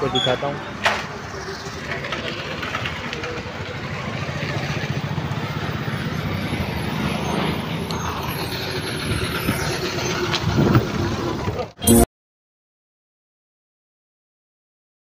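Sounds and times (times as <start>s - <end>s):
bus engine rumbling: 0.0s - 12.0s
road traffic noise: 0.0s - 12.0s.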